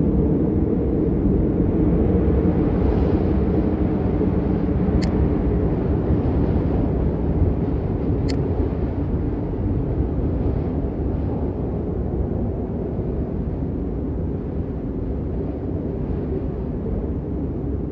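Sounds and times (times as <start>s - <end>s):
storm rumble on microphone: 0.0s - 17.9s.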